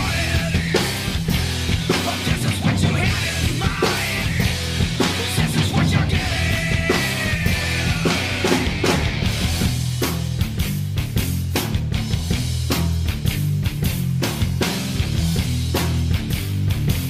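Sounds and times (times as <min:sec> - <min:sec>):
drum kit played hard: 0:00.0 - 0:17.0
heavy rock music: 0:00.0 - 0:17.0.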